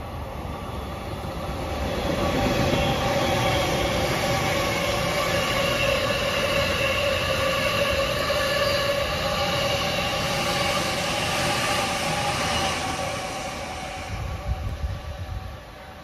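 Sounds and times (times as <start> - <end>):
rail noise: 0.0 - 16.0
train running past: 0.0 - 16.0
train whine: 0.0 - 16.0.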